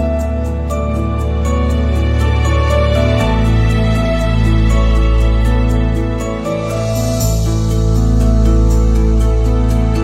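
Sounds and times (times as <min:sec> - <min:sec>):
soft slow new-age music: 0:00.0 - 0:10.0.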